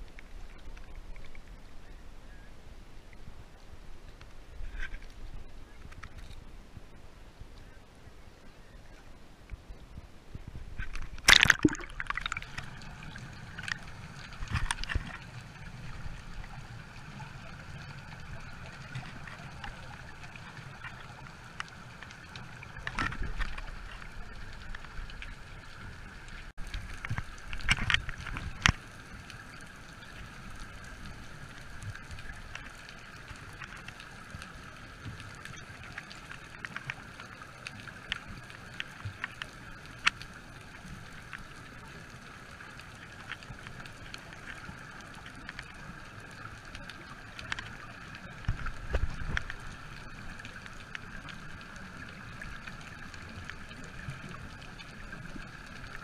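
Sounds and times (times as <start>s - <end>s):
water sloshing and gurgling: 10.3s - 56.0s
water splashes: 10.7s - 56.0s.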